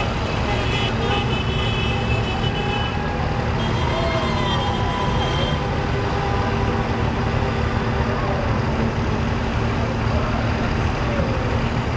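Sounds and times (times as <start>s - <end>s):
cars and trucks passing: 0.0s - 11.9s.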